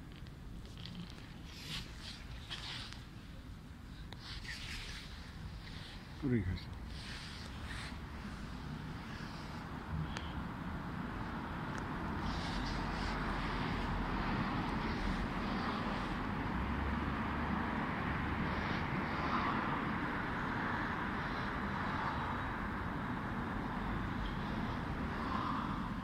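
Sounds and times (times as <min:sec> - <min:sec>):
city road traffic hum: 0:00.0 - 0:26.0.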